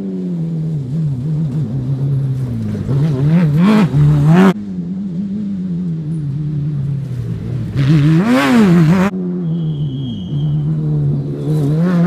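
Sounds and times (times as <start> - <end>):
racing buggy engine revving: 0.0 - 12.0.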